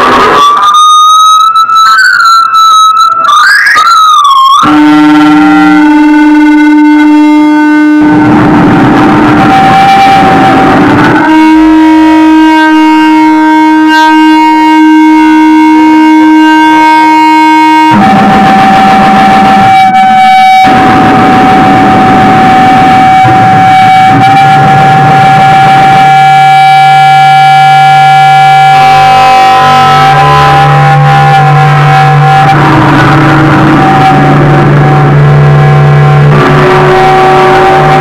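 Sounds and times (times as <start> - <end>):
electric guitar drone: 0.0 - 38.0.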